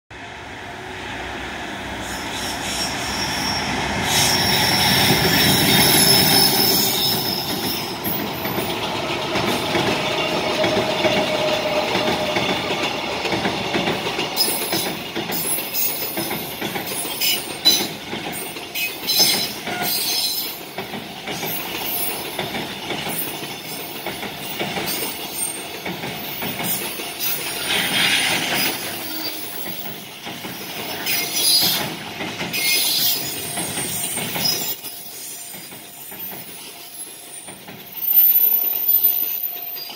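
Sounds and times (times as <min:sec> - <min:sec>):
freight train passing: 0:00.1 - 0:39.9
wheels clacking over rail joints: 0:03.7 - 0:39.9.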